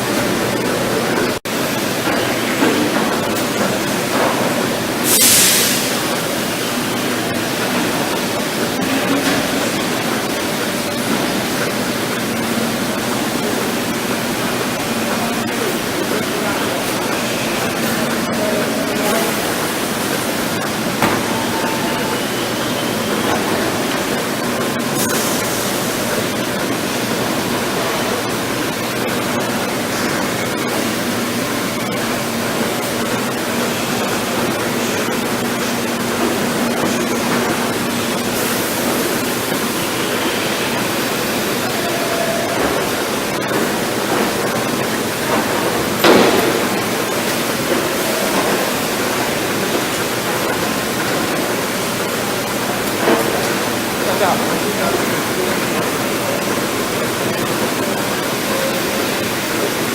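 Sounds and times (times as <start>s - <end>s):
barn machinery rushing noise: 0.0s - 59.9s.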